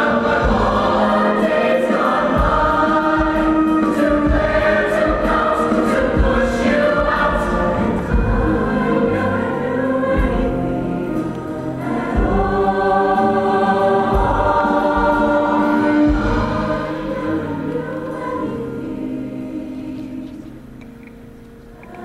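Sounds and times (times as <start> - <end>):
choir singing a slow ballad: 0.0 - 22.0.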